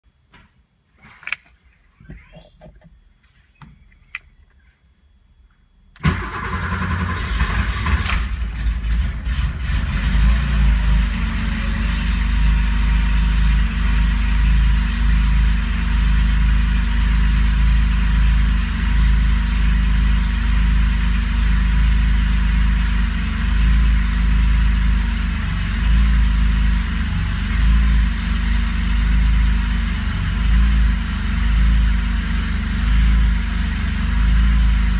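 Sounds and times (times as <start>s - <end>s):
car engine starting and idling: 5.9s - 34.9s.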